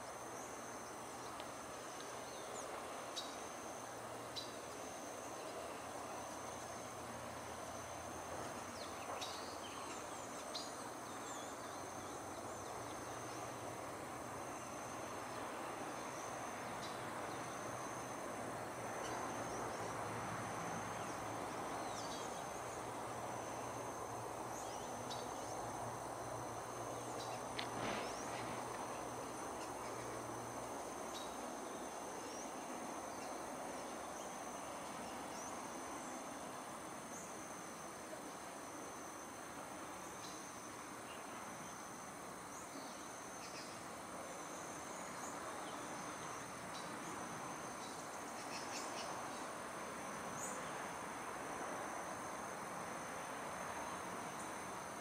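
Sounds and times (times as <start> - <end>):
background hiss: 0.0 - 55.0
insects trilling: 0.0 - 55.0.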